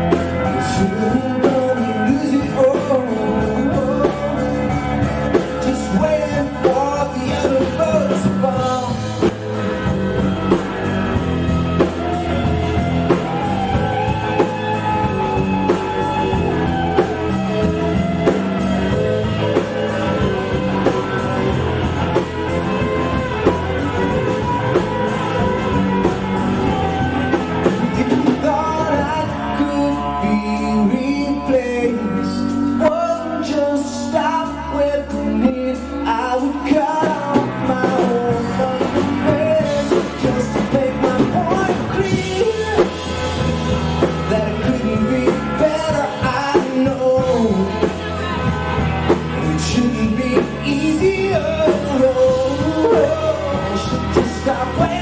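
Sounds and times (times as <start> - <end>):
person singing: 0.0 - 10.6, 11.7 - 55.0
rock band playing live: 0.0 - 55.0.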